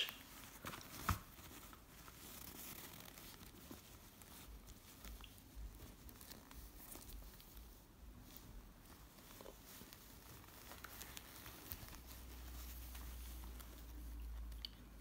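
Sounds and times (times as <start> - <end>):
satin pouch rustling: 0.0 - 14.5.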